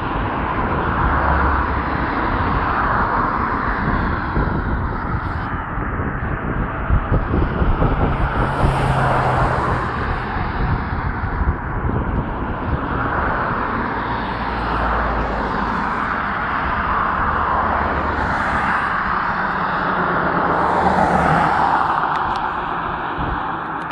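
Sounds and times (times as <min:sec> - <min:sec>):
cars driving past: 0:00.0 - 0:23.9
wind on microphone: 0:00.0 - 0:23.9.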